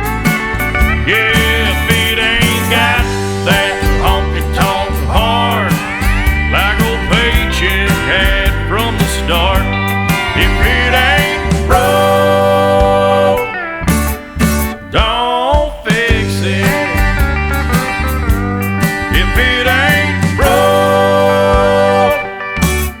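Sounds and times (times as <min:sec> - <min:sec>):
sliding steel guitar: 0:00.0 - 0:15.0, 0:16.1 - 0:23.0
country band playing: 0:00.0 - 0:23.0.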